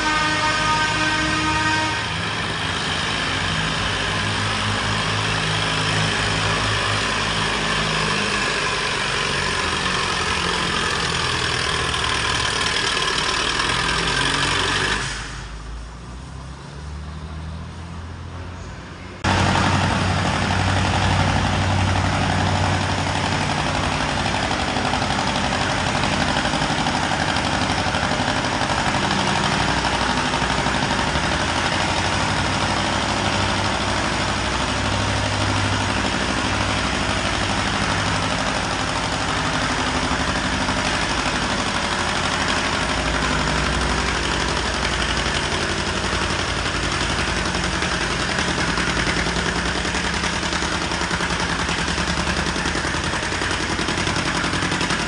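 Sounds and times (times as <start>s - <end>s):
tractor engine running under load: 0.0s - 15.8s, 19.2s - 55.0s.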